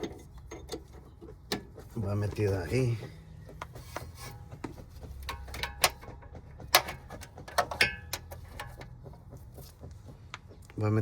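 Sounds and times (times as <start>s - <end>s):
sharp metal taps and knocks: 0.0s - 11.0s.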